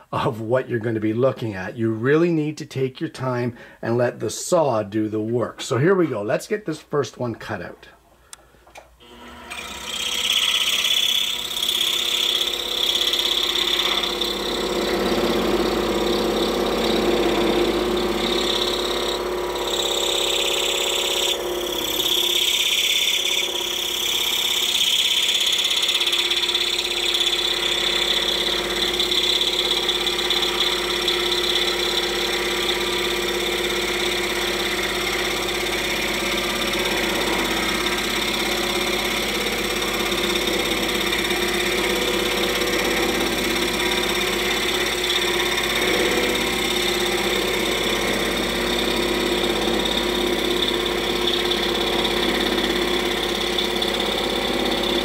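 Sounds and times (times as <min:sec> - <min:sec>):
scroll saw cutting wood: 0:09.0 - 0:55.0.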